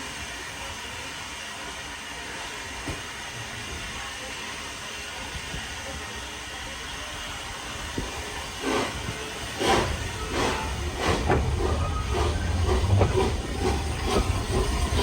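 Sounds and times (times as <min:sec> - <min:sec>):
loud steam bursts: 0:00.0 - 0:15.0
steam hissing: 0:00.0 - 0:15.0.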